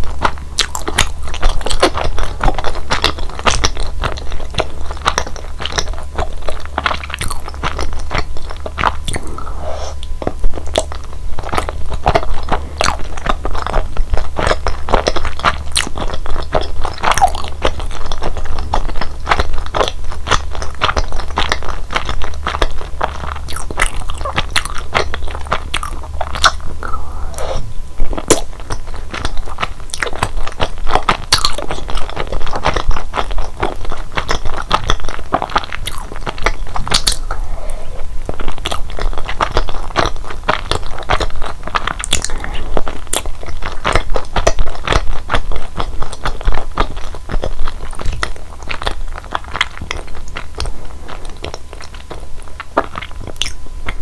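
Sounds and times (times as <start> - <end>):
chewing sticky dumplings: 0.0 - 54.0
wet mouth clicks: 0.6 - 13.8, 14.4 - 45.1, 52.7 - 54.0.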